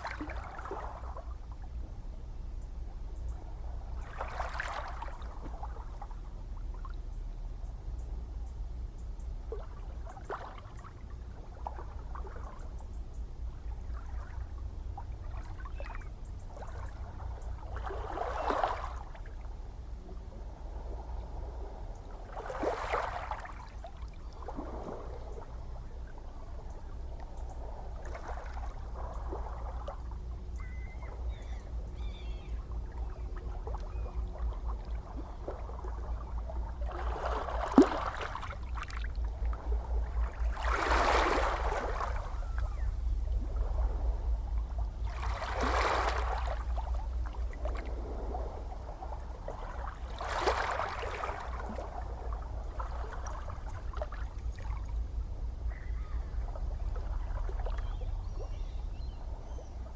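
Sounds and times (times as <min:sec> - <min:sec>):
ocean waves lapping and splashing: 0:00.0 - 0:02.4, 0:03.0 - 0:07.6, 0:08.2 - 0:59.9
low rumble of surf: 0:00.0 - 0:59.9.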